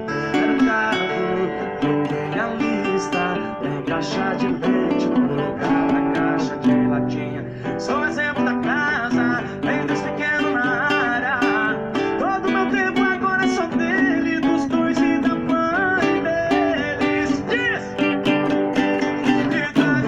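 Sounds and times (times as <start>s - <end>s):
strummed acoustic guitar chords: 0.0s - 20.0s.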